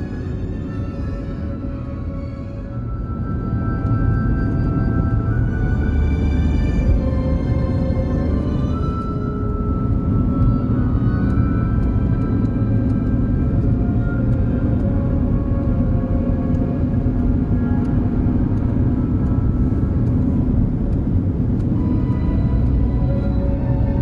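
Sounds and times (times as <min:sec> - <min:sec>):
slow ambient music: 0:00.0 - 0:24.0.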